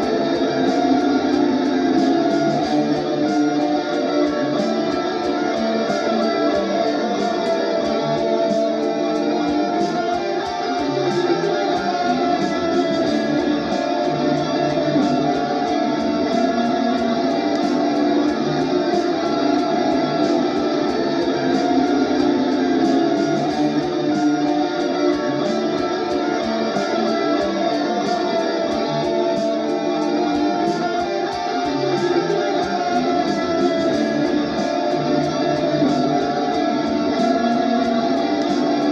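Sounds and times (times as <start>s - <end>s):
drum machine beat: 0.0s - 38.9s
electric guitar improvising: 0.0s - 38.9s.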